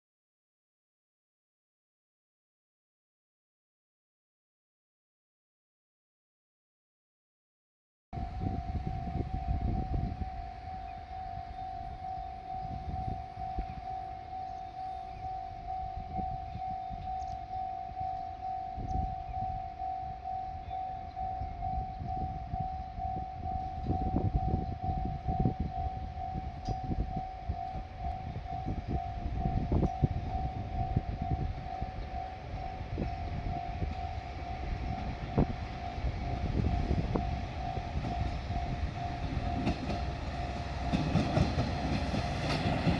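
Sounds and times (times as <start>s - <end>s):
level crossing alarm ringing: 8.2s - 42.9s.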